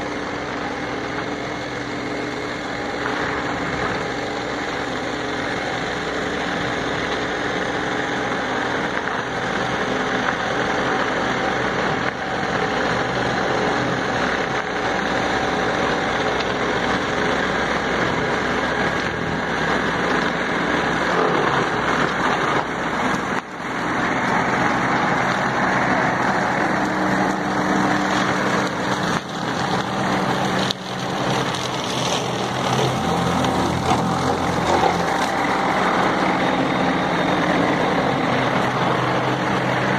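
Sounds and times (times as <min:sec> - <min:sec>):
mower cutting brush and grass: 0:00.0 - 0:39.9
tractor diesel engine running: 0:00.0 - 0:39.9.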